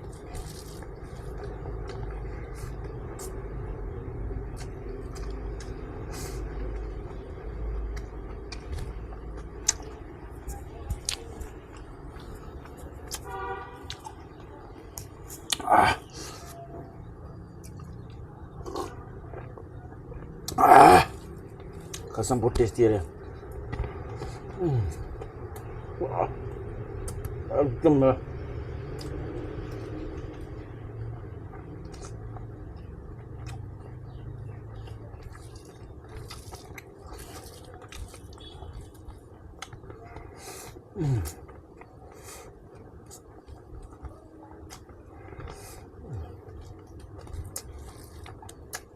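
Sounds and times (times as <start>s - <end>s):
person chewing: 0.0s - 22.2s, 23.1s - 25.9s, 26.5s - 27.4s, 28.8s - 48.9s.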